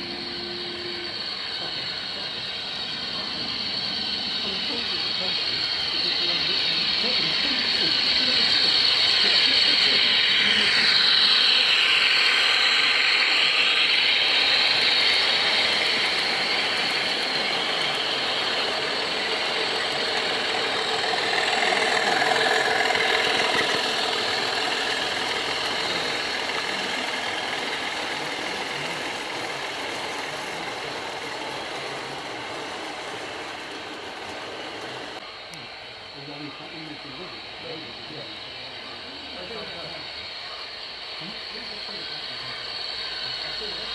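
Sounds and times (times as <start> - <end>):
model train wheels rolling on rails: 0.0 - 43.9.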